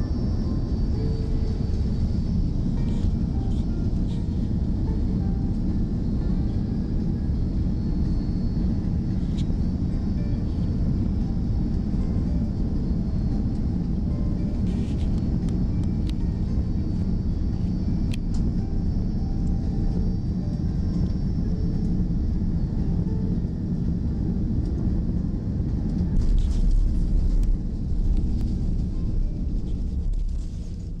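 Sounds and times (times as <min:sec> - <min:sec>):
aircraft cabin engine rumble: 0:00.0 - 0:31.0.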